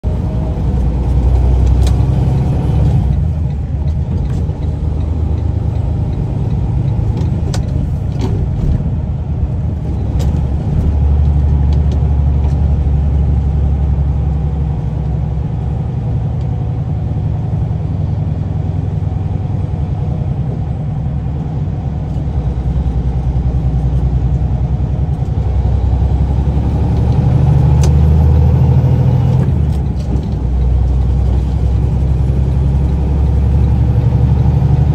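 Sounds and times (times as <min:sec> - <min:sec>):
diesel truck engine drone: 0:00.0 - 0:34.9.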